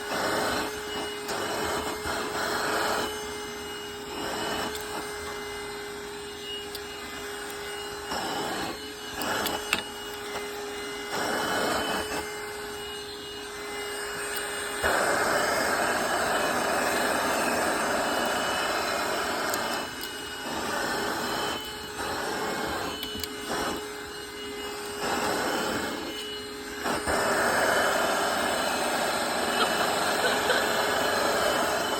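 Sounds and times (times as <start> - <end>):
vacuum cleaner rushing: 0.0 - 31.9.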